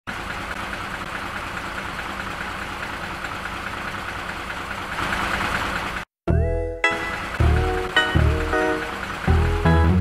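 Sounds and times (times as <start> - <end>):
truck engine running: 0.1 - 10.0.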